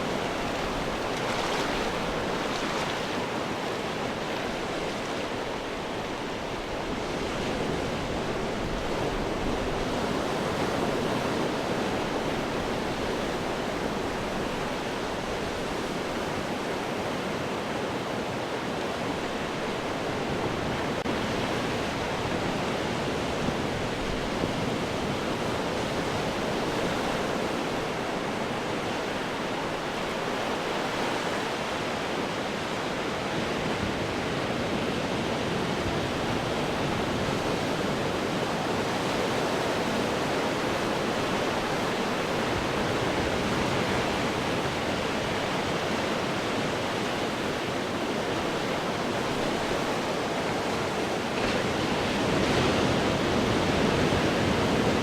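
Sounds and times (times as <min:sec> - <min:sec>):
ocean surf breaking on rocks: 0:00.0 - 0:55.0.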